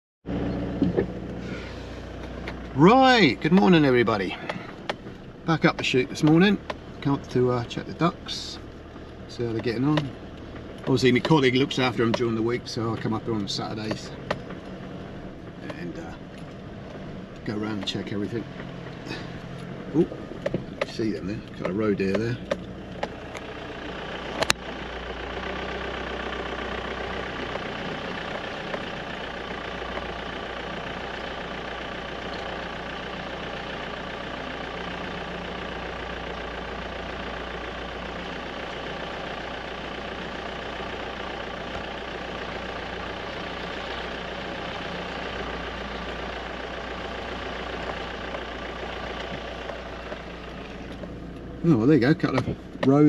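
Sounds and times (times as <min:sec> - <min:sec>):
vehicle engine running at low speed: 0:00.2 - 0:53.0.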